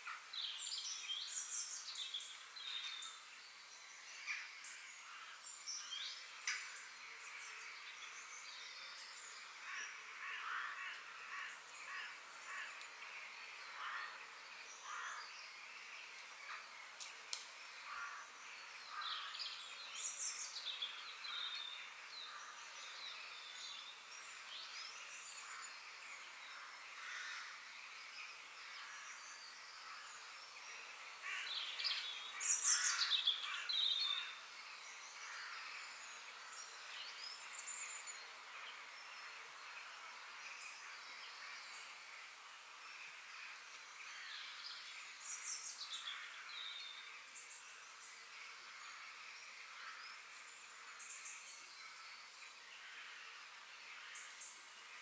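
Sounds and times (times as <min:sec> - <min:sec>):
forest birds singing and chirping: 0:00.0 - 0:55.0
steady background hiss: 0:00.0 - 0:55.0.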